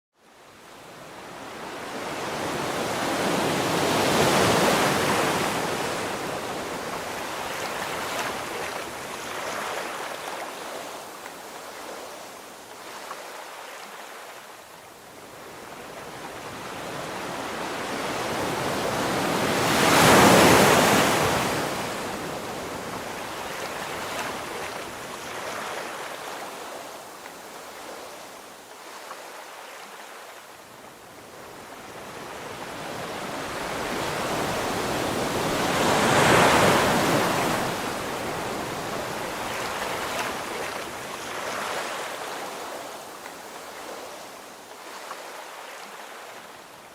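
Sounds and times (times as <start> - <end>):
sea waves breaking: 1.2 - 14.4, 15.4 - 30.5, 31.2 - 46.8.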